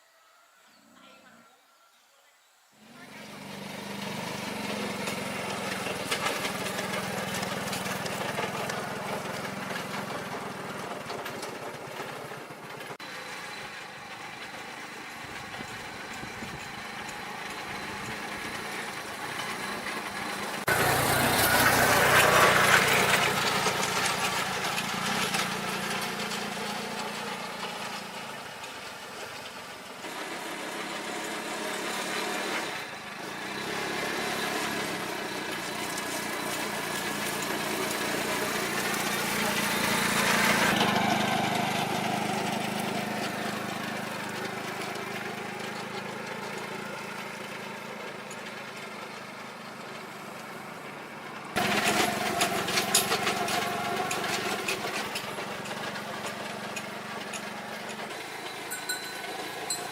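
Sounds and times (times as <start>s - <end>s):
engine running: 2.8s - 59.9s.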